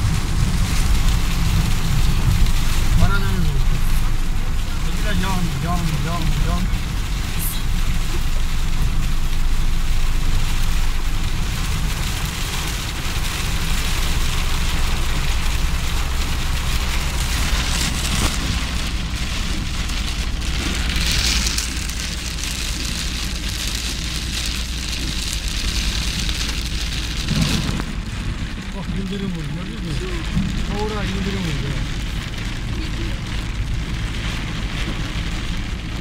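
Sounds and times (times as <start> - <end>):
car and tyres rumbling: 0.0 - 36.0
heavy rain on car roof: 0.0 - 36.0.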